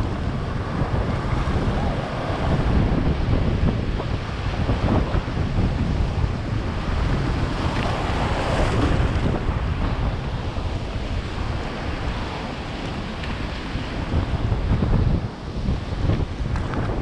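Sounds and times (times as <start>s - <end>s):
surf washing over reef: 0.0s - 17.0s
wind buffeting microphone: 0.0s - 17.0s.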